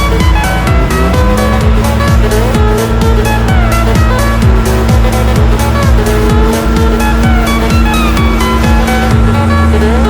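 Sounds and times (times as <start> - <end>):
deep kick drum: 0.0 - 9.5
electronic music with synth: 0.0 - 10.0.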